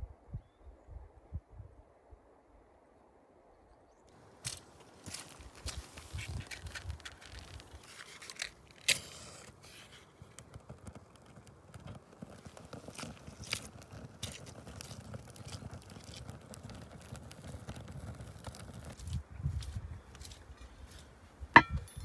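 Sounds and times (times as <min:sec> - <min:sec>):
twigs crackling in fire: 0:04.1 - 0:22.0.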